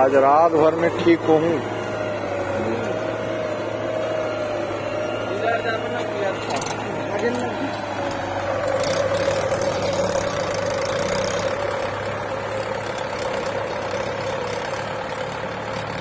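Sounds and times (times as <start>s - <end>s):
backhoe loader engine: 0.0s - 16.0s
tractor diesel engine running: 0.0s - 16.0s.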